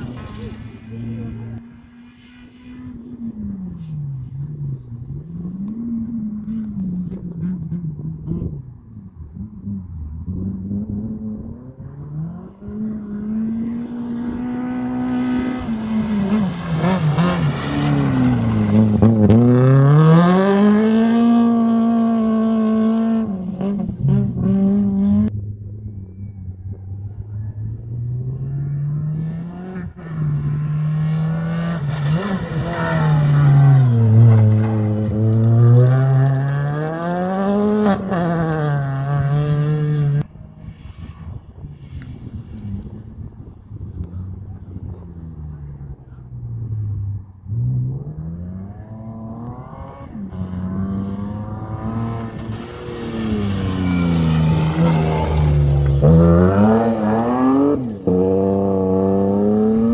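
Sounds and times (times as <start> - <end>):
rally car engine at full throttle: 0.0 - 59.9.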